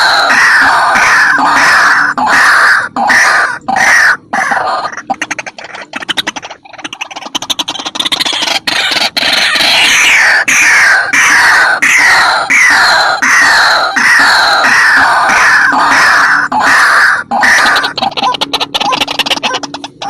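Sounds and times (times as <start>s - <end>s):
bird harsh calls: 0.0s - 20.0s.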